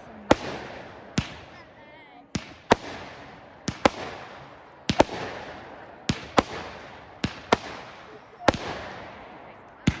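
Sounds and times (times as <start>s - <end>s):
fireworks bangs with echo: 0.0s - 10.0s.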